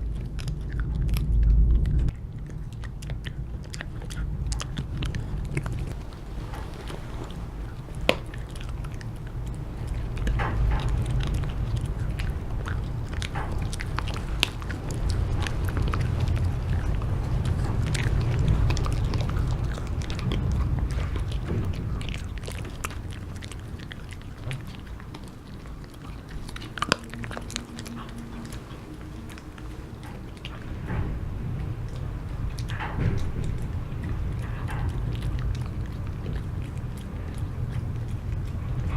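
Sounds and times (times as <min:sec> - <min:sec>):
dog chewing hard treat: 0:00.0 - 0:38.9
low rumble: 0:00.0 - 0:38.9.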